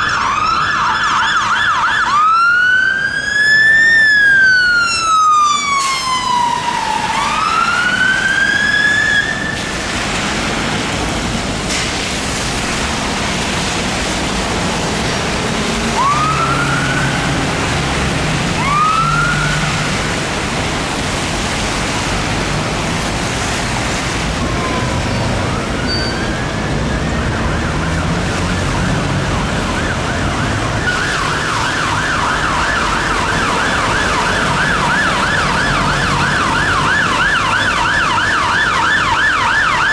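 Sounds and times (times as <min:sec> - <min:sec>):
fire engine sirens: 0:00.0 - 0:39.9
traffic noise: 0:00.0 - 0:39.9.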